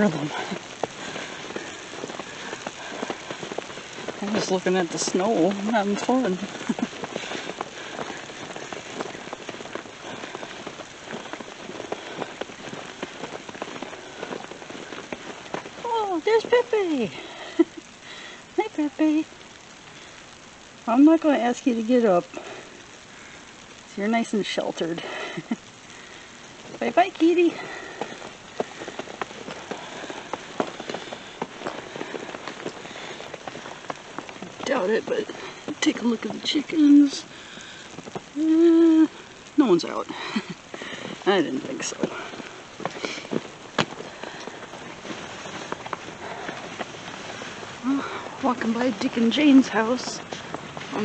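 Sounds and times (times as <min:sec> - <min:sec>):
wet snow crackling and pattering: 0:00.0 - 0:51.0.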